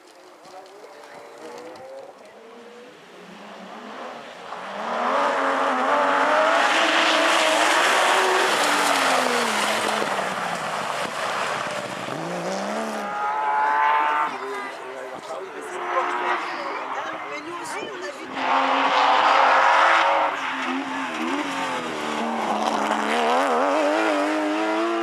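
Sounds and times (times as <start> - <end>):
rally car engine passing at speed: 0.5 - 25.0.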